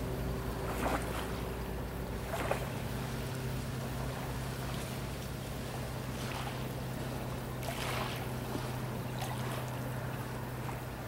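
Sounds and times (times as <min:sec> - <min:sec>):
small waves lapping: 0:00.0 - 0:11.0
steady low hum: 0:00.0 - 0:11.0.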